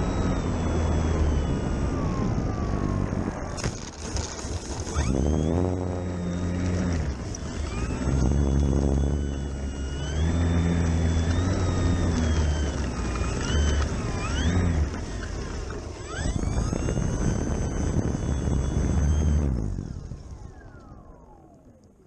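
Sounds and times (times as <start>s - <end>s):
electric model plane motor whining: 0.0s - 22.0s.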